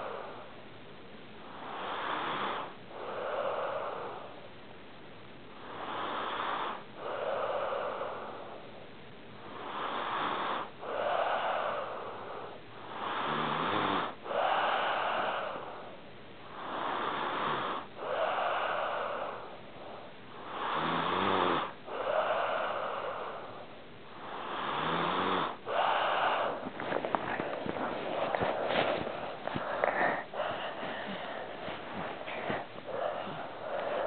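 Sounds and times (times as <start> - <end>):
pet snoring: 1.4 - 4.4, 5.6 - 8.7, 9.4 - 34.0.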